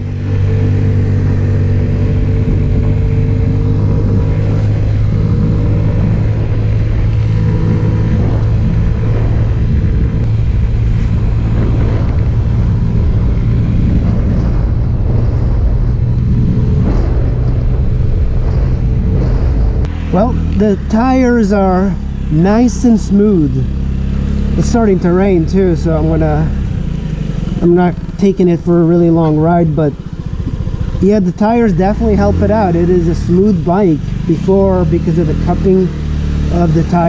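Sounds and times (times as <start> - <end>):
scooter engine running: 0.0 - 37.0.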